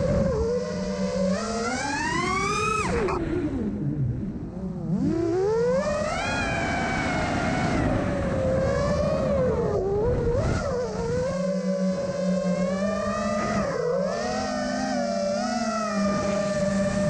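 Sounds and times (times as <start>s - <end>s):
low wind rumble: 0.0s - 14.4s
electric motor propeller whining: 0.0s - 17.0s.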